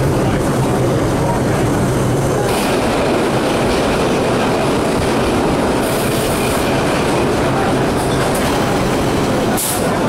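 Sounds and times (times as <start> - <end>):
subway wheels on rails: 0.0 - 10.0.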